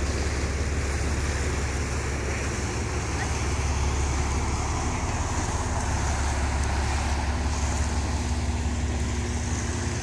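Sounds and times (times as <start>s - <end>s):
motorboat engine hum: 0.0s - 10.0s.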